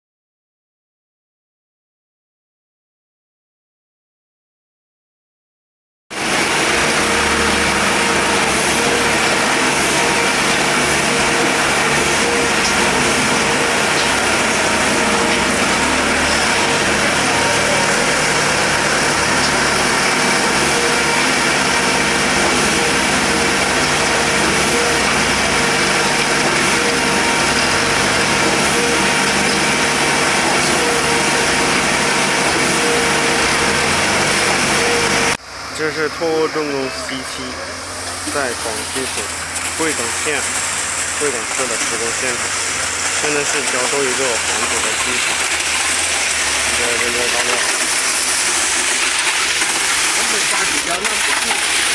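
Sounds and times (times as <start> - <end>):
concrete mixer pump running: 6.1 - 51.9.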